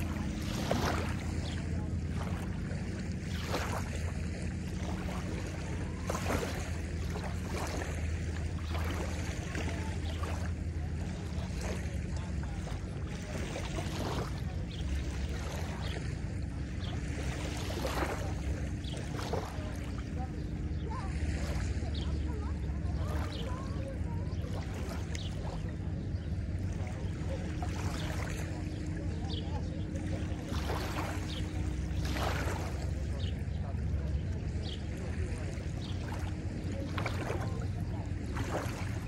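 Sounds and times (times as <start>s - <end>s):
distant motorboat engine hum: 0.0s - 39.0s
waves lapping on sandy shore: 0.0s - 39.0s.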